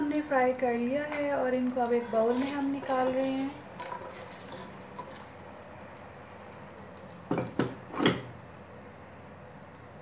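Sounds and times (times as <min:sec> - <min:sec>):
frying oil sizzle: 0:00.0 - 0:10.0.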